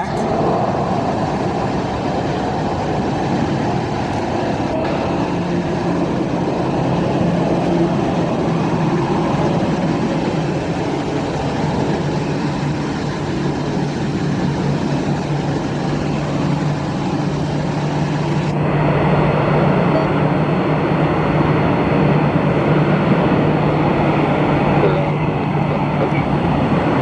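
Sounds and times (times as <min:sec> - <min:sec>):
jet engines running: 0:00.0 - 0:27.0
low hum: 0:00.0 - 0:27.0.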